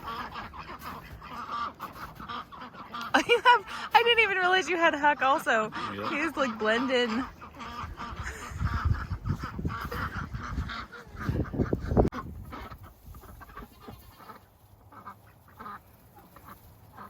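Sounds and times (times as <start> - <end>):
ducks quacking and honking: 0.0 - 17.0.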